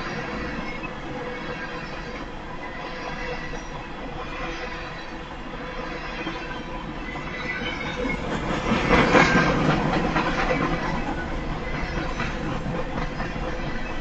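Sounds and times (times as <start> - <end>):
freight train wheels clattering on rails: 0.0 - 14.0.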